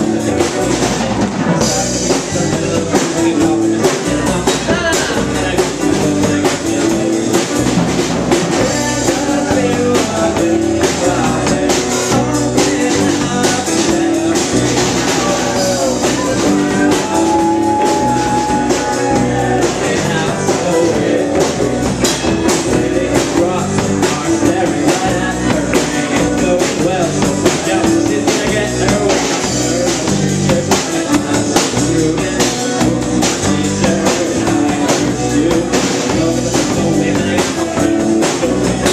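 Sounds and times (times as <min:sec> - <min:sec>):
drum kit with cymbals: 0:00.0 - 0:38.9
electric guitar: 0:00.0 - 0:38.9
person singing: 0:00.0 - 0:38.9.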